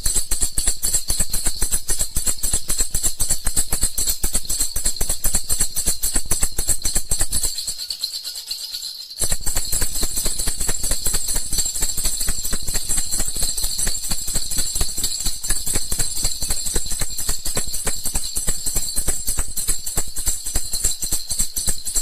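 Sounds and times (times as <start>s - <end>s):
baby rattle jingling: 1.5s - 22.0s.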